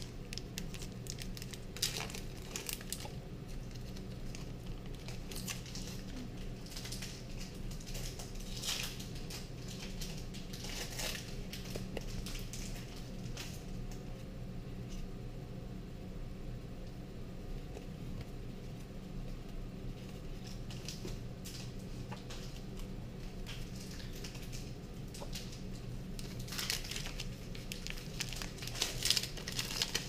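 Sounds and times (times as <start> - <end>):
foil wrappers crinkling and tearing: 0.0 - 14.0, 19.8 - 30.0
faint low hum: 0.0 - 30.0.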